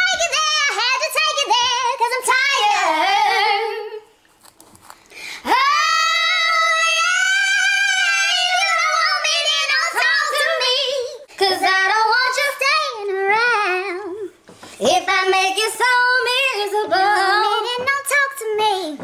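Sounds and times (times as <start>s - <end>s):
woman singing: 0.0s - 4.1s, 5.4s - 19.0s.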